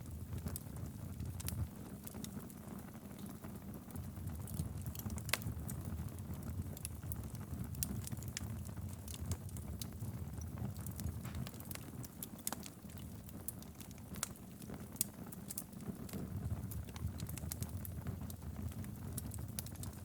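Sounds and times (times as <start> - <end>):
flames rumbling: 0.0 - 20.0
logs crackling and popping: 0.0 - 20.0.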